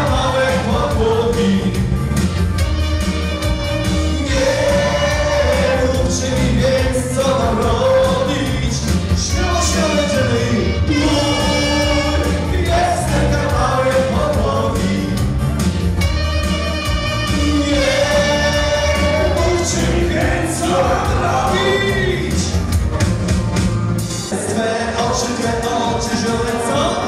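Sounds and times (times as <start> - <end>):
man singing: 0.0 - 2.0, 3.8 - 15.5, 17.2 - 22.6, 24.2 - 27.0
live dance band playing: 0.0 - 27.0.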